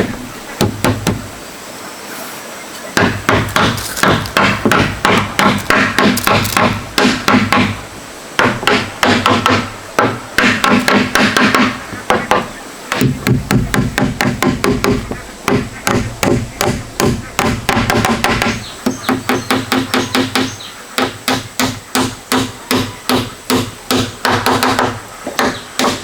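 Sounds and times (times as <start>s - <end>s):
hammer striking wood: 0.6s - 1.3s, 3.0s - 7.8s, 8.4s - 26.0s.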